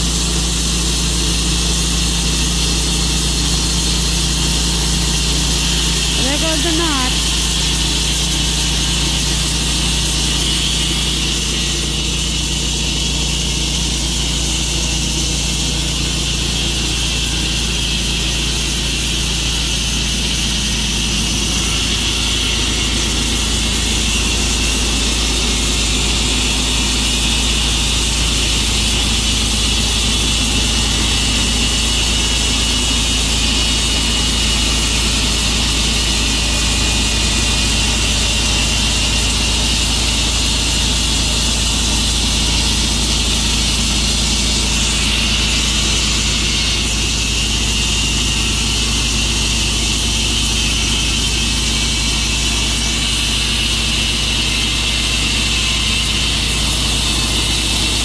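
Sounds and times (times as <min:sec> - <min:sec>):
saw blade cutting log: 0:00.0 - 0:58.0
sawmill engine running: 0:00.0 - 0:58.0.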